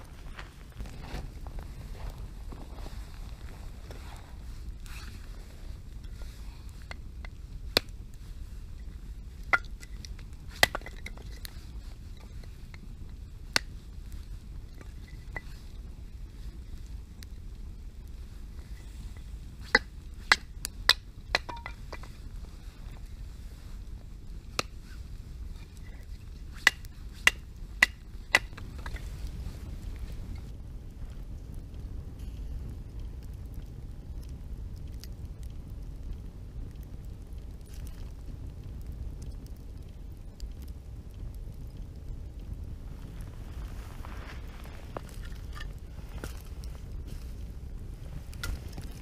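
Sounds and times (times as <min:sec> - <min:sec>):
campfire crackling and popping: 0:00.0 - 0:49.0
low steady rumble: 0:00.0 - 0:49.0.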